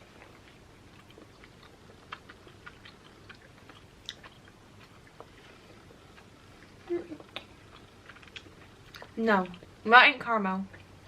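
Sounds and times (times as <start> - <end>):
chewing mouth clicks and smacks: 0.2 - 9.7.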